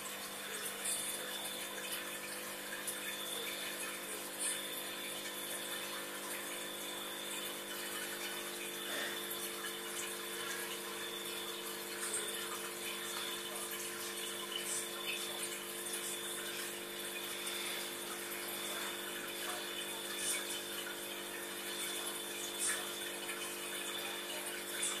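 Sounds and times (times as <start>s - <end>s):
aquarium pump hum: 0.0s - 25.0s.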